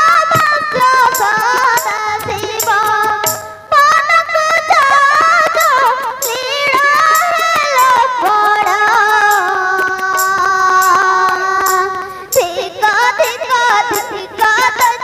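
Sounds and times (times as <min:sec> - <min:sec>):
drum beat: 0:00.0 - 0:03.6, 0:04.4 - 0:14.1
harmonium: 0:00.0 - 0:15.0
woman singing: 0:00.0 - 0:15.0.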